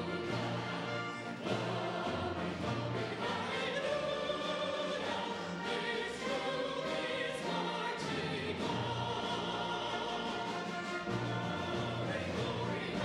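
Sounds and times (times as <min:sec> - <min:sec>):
orchestra playing: 0:00.0 - 0:13.0
vocal ensemble singing: 0:00.0 - 0:13.0.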